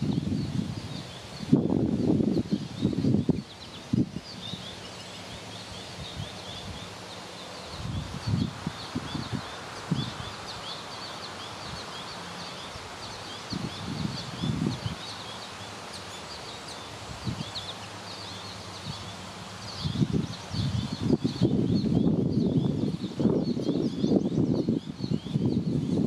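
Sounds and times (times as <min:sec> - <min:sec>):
wind buffeting microphone: 0:00.0 - 0:04.8, 0:05.4 - 0:12.1, 0:12.8 - 0:15.3, 0:17.0 - 0:17.9, 0:18.5 - 0:26.0.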